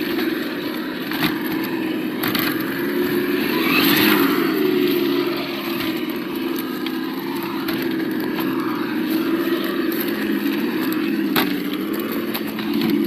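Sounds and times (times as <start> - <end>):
simulated engine from small speaker: 0.0 - 13.0.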